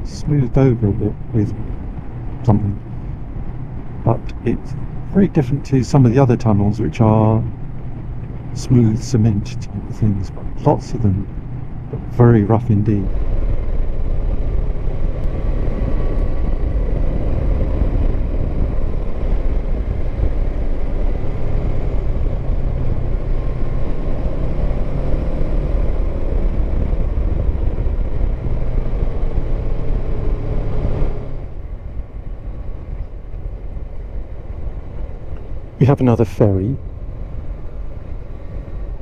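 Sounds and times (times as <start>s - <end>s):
motorcycle engine cruising: 0.0s - 39.0s
road and wind noise: 0.0s - 39.0s.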